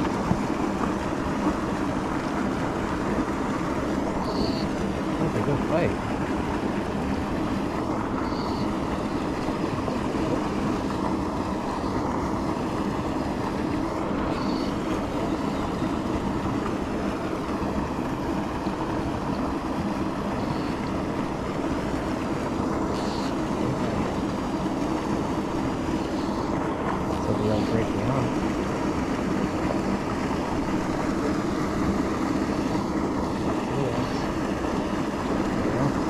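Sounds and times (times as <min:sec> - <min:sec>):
flowing river water: 0:00.0 - 0:36.0.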